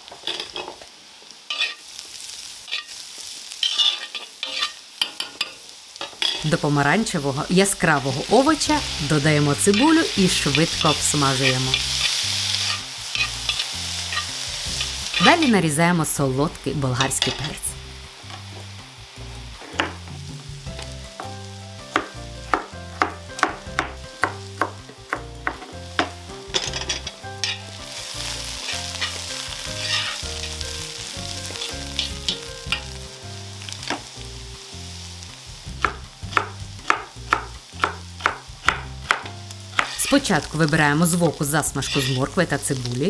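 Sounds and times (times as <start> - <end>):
vegetables sizzling in a wok: 0.0 - 43.0.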